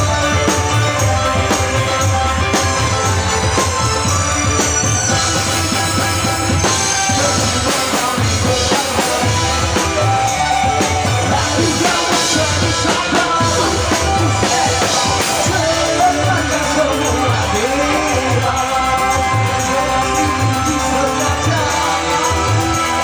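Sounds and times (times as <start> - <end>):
drum kit steady beat: 0.0 - 23.0
person singing: 0.0 - 23.0.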